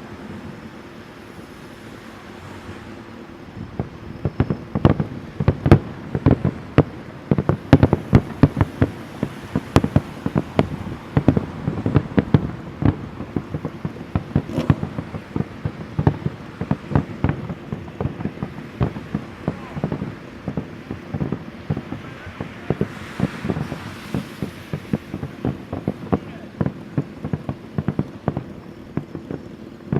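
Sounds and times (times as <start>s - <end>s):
fireworks booming: 0.0s - 29.9s.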